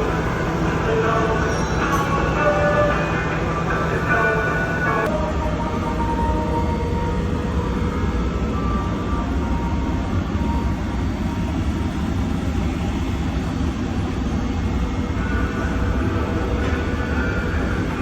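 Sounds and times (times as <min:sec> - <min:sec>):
lathe mechanical drone: 0:00.0 - 0:18.0.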